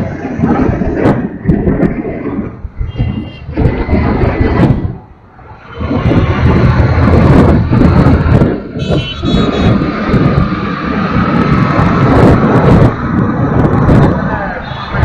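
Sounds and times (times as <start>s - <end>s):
road and traffic noise: 0.0s - 15.0s
wind rumble on microphone: 0.0s - 15.0s.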